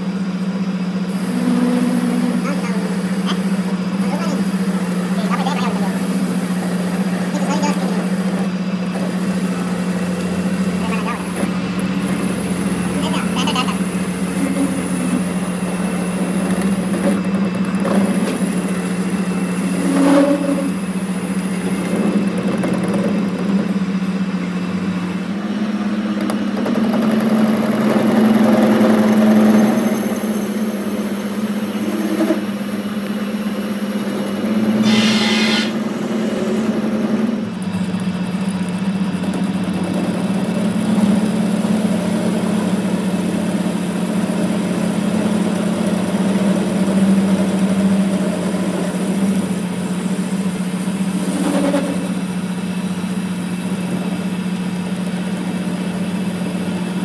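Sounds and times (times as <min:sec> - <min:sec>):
harsh high-pitched machine noise: 0:00.0 - 0:57.0
workshop machine motor humming: 0:00.0 - 0:57.0.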